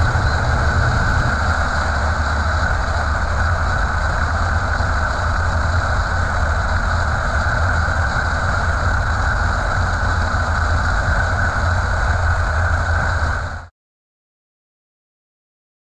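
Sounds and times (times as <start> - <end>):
truck driving at highway speed: 0.0 - 13.7.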